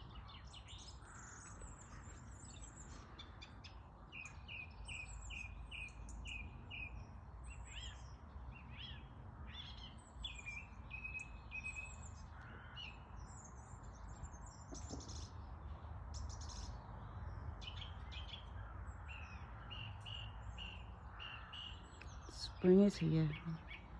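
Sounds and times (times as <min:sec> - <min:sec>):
songbirds singing: 0:00.0 - 0:23.9.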